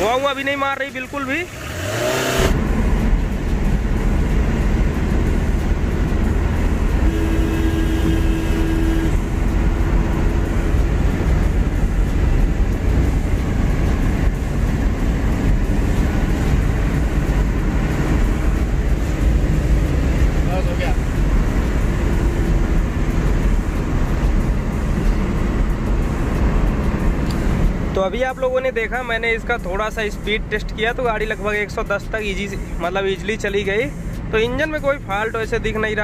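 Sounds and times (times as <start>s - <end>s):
car cabin rumble at highway speed: 2.4s - 36.0s.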